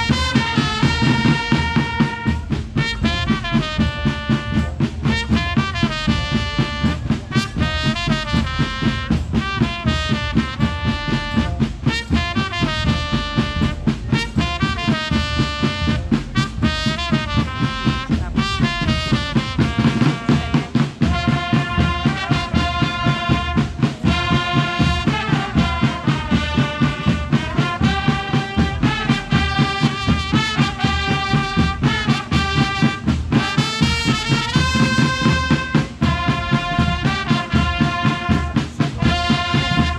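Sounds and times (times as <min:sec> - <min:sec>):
brass marching band playing: 0:00.0 - 0:39.9.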